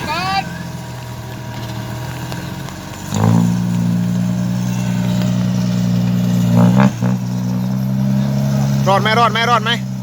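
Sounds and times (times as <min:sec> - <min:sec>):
vehicle engine revving under load: 0:00.0 - 0:10.0.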